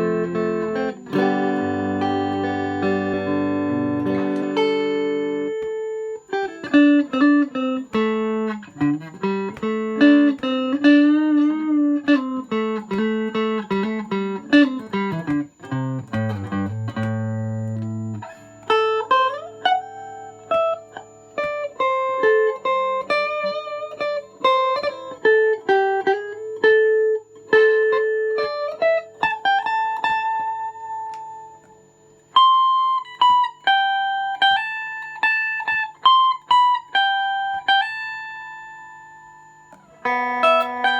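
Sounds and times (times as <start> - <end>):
electric guitar melody: 0.0 - 40.9.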